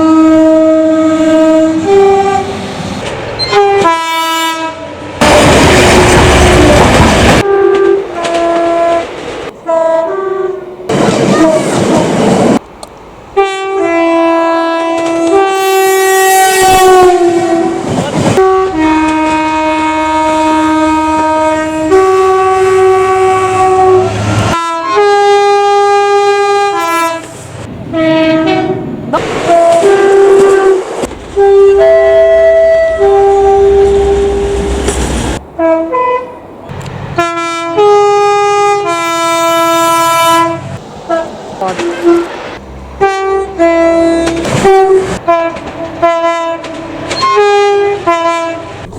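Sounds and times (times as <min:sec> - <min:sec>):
train horn blasts: 0:00.0 - 0:02.6, 0:03.4 - 0:11.8, 0:13.4 - 0:28.8, 0:29.4 - 0:30.8, 0:31.4 - 0:34.9, 0:35.6 - 0:36.4, 0:37.1 - 0:42.3, 0:43.0 - 0:48.8
trains running: 0:00.0 - 0:48.9.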